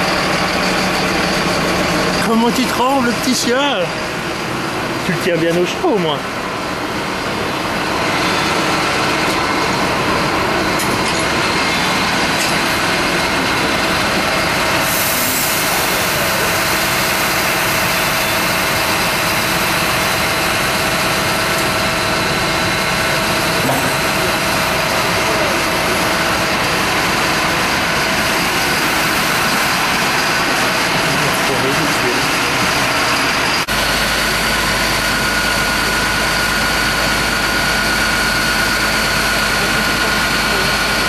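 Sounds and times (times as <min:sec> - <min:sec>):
truck engine droning: 0:00.0 - 0:41.0.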